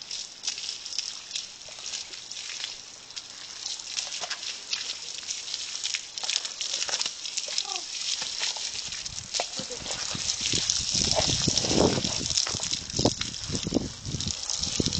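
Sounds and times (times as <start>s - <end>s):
hose water spattering: 0.0s - 14.9s.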